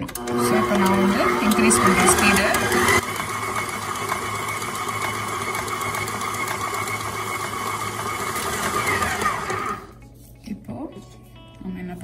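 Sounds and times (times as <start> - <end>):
stand mixer motor whining: 0.0 - 10.0.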